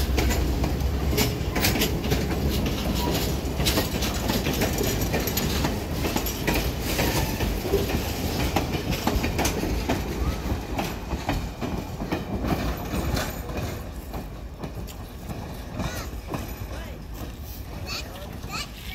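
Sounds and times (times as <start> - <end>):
train rumble: 0.0 - 18.9
wheels clicking over rail joints: 0.0 - 18.9.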